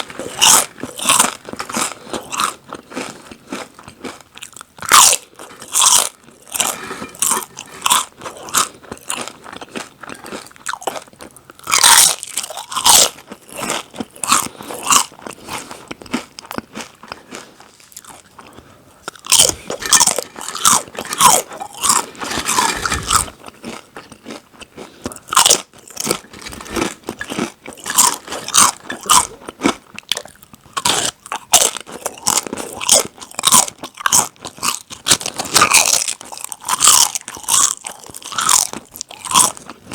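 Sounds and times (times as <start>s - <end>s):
crunching snack chips: 0.1s - 39.9s.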